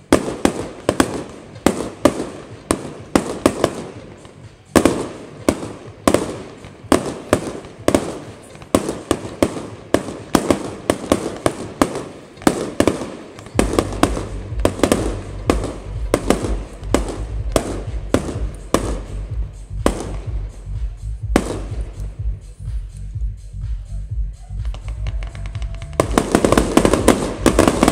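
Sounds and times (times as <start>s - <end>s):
fireworks bangs: 0.0s - 22.9s, 24.5s - 27.9s
music with deep pulsing bass: 0.0s - 27.9s.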